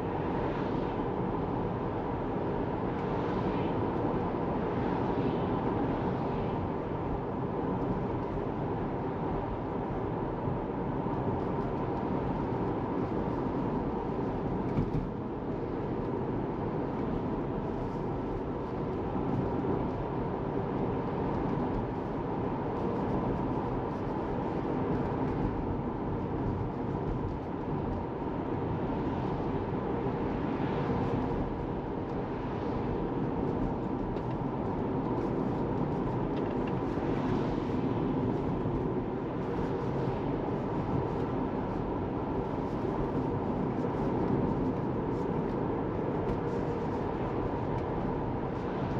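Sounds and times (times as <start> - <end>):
road and tyre noise in car cabin: 0.0 - 48.9.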